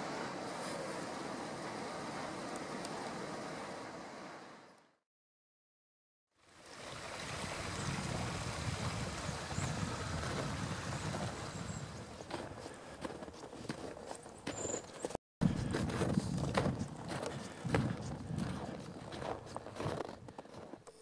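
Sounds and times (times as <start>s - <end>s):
rushing outdoor forest noise: 0.0s - 4.9s, 6.4s - 20.7s.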